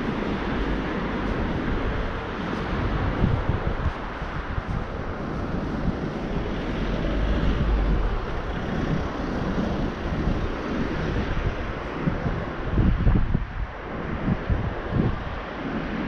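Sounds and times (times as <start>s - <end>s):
city traffic hum: 0.0s - 16.0s
wind buffeting microphone: 0.0s - 16.0s.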